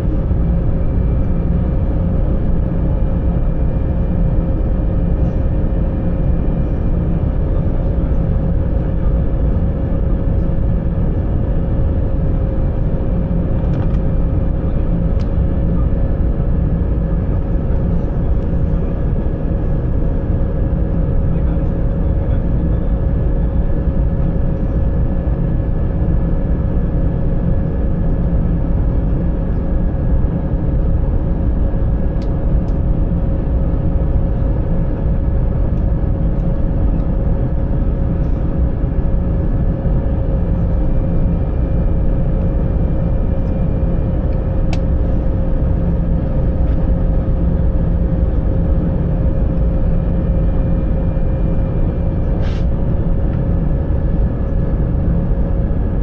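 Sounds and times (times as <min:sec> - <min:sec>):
steady hum tone: 0:00.0 - 0:56.0.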